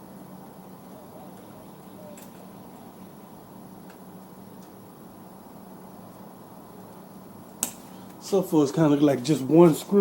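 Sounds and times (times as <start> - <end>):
low background hum and hiss: 0.0 - 10.0.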